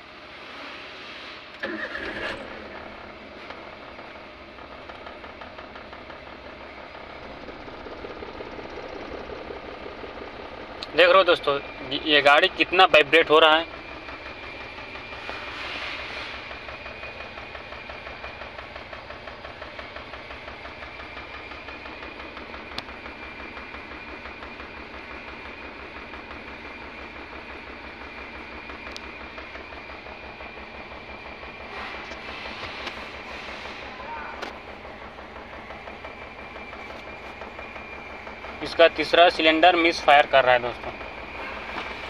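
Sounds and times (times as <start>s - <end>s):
car engine idling roughly: 0.0s - 42.0s
thin steady whine: 0.0s - 42.0s.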